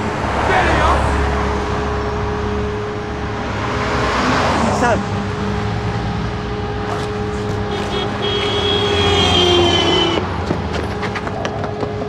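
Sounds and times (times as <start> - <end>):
vehicle passing with low hum: 0.0 - 12.0.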